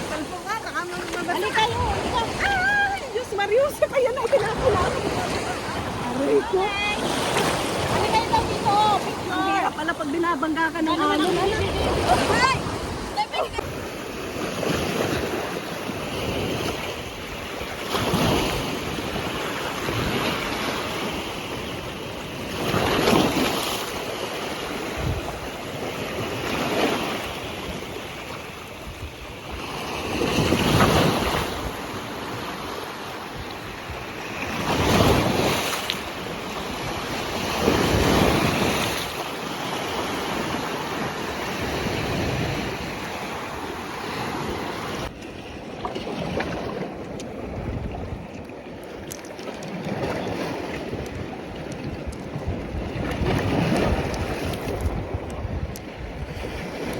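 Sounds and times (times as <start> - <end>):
sea waves washing ashore: 0.0 - 56.9.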